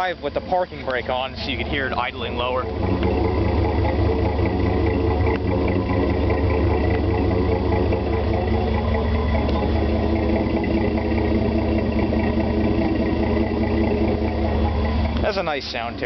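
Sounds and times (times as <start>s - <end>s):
engine idling low rumble: 0.0s - 16.0s.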